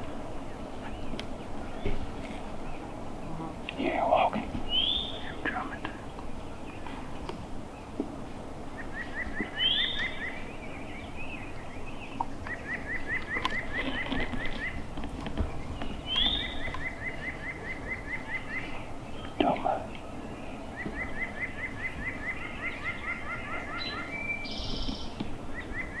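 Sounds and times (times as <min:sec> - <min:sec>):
songbird singing: 0:00.0 - 0:26.0
woodland background noise: 0:00.0 - 0:26.0.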